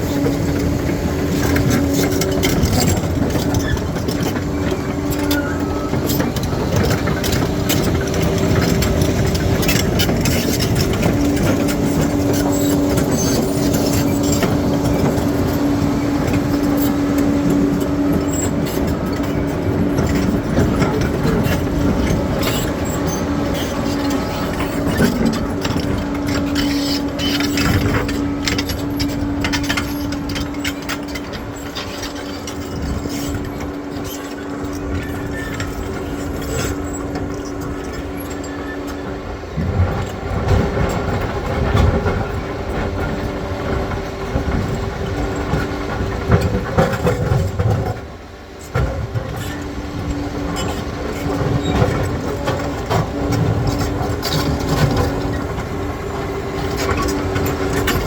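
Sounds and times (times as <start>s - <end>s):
diesel engine running: 0.0s - 58.0s
steel tracks clattering: 0.0s - 58.0s.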